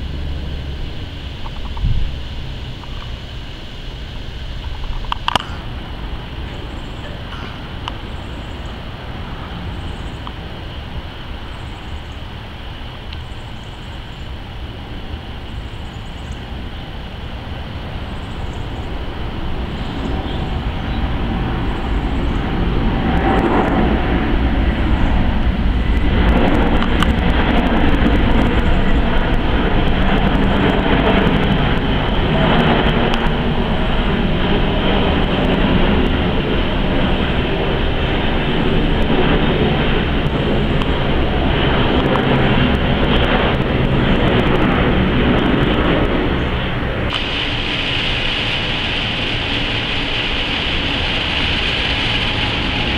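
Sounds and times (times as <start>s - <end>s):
jet engines passing overhead: 0.0s - 52.9s.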